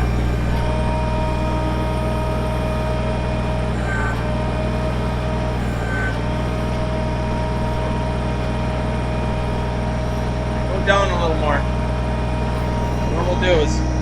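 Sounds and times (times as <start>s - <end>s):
thin steady whine: 0.0s - 14.0s
tractor diesel engine running: 0.0s - 14.0s.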